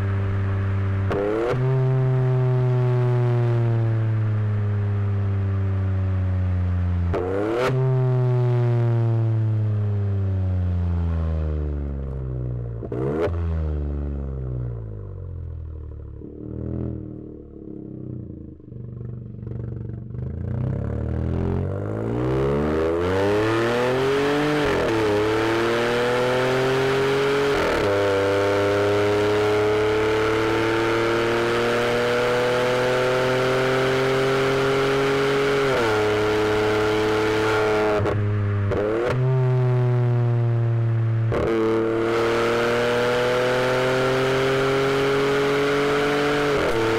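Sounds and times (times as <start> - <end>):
turbocharged car engine accelerating: 0.0 - 3.9, 7.1 - 8.9, 12.8 - 14.1, 16.0 - 46.9.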